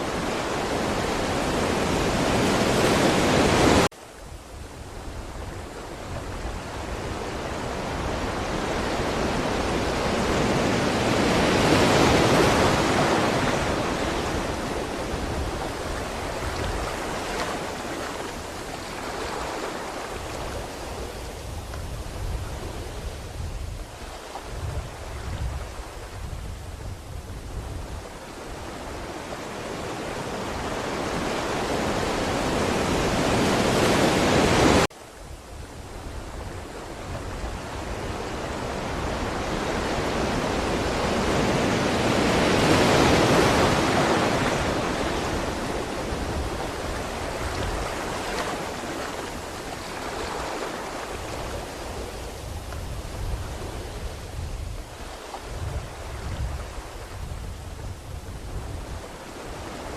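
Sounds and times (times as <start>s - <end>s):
ocean waves surging on shore: 0.0s - 59.9s.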